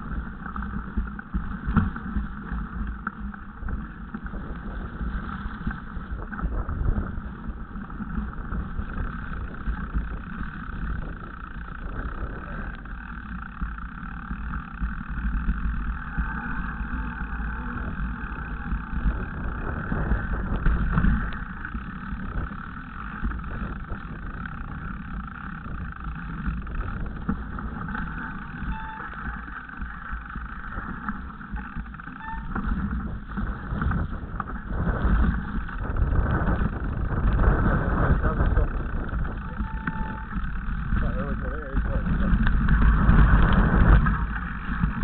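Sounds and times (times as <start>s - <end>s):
bike rattling over bumps: 0.0s - 45.0s
wind rumble on microphone: 0.0s - 45.0s.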